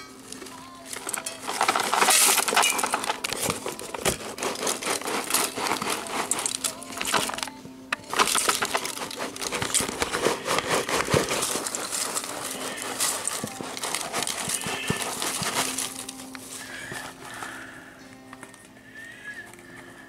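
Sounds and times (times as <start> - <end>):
shredded paper rustling: 0.0 - 17.7.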